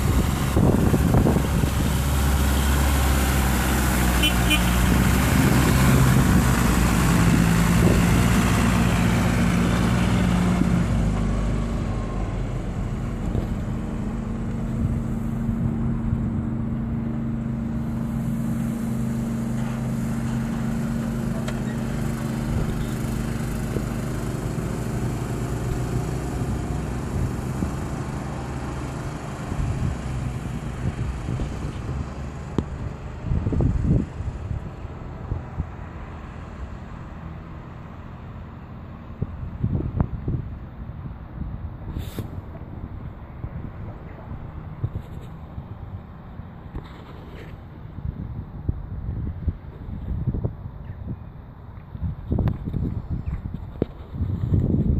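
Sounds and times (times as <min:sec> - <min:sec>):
diesel truck engine driving past: 0:00.0 - 0:46.7.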